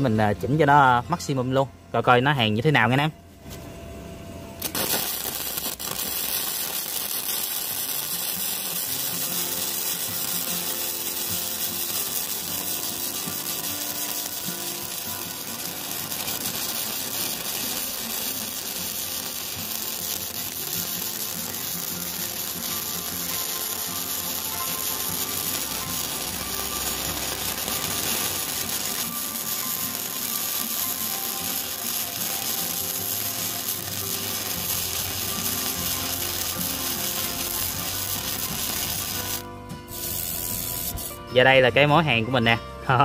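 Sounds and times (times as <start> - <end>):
welding arc crackling: 4.6 - 41.2.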